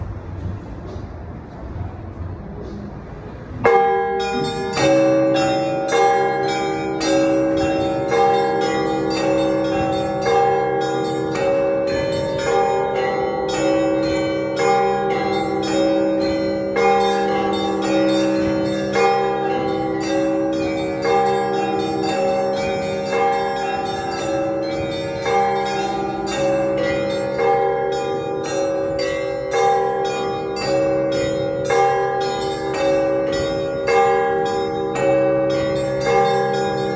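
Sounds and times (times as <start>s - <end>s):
church bells ringing: 3.6s - 36.9s.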